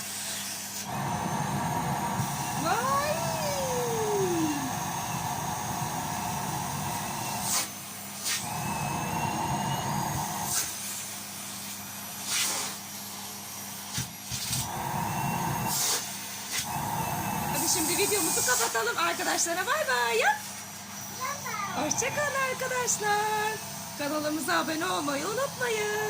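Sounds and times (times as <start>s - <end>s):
vacuum cleaner motor hum: 0.0s - 26.0s.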